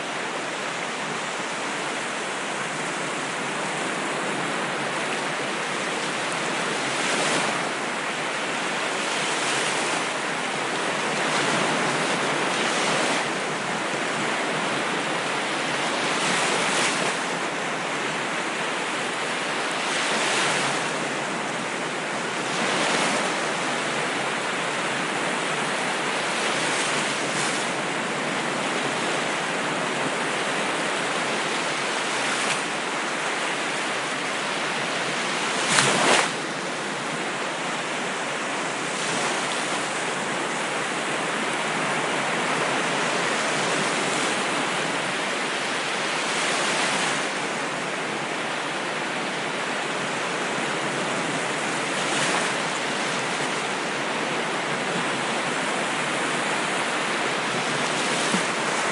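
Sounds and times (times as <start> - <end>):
ocean waves washing ashore: 0.0 - 58.9.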